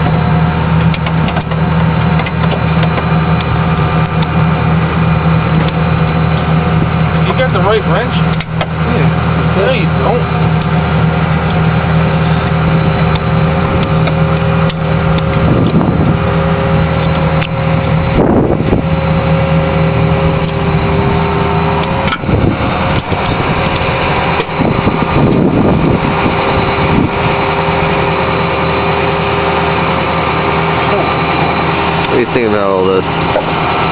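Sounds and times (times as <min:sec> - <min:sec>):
motor running: 0:00.0 - 0:33.9.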